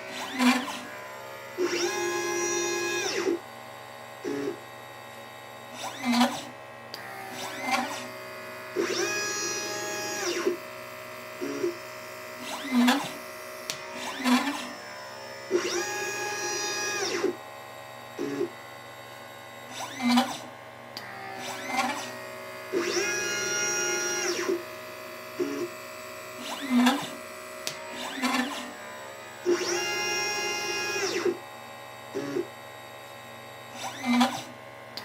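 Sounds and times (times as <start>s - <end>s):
stepper motors whining: 0.0s - 4.8s, 5.6s - 17.4s, 18.1s - 18.8s, 19.6s - 32.6s, 33.6s - 34.5s.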